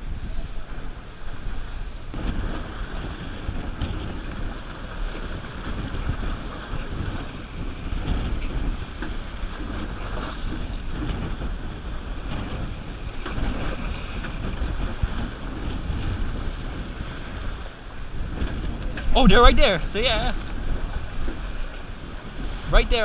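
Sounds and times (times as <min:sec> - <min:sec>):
water splashing against boat: 0:00.0 - 0:23.0
wind buffeting microphone: 0:00.0 - 0:23.0.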